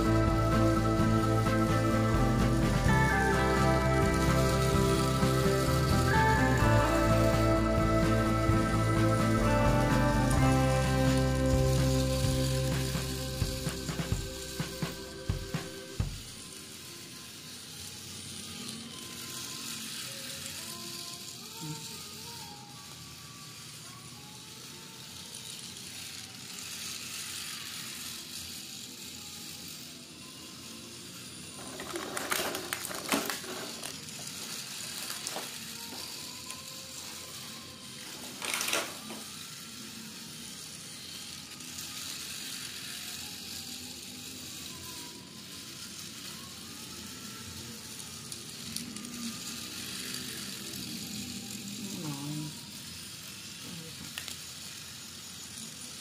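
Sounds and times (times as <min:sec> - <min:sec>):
faint music: 0:00.0 - 0:56.0
toy train rattling on track: 0:00.0 - 0:56.0.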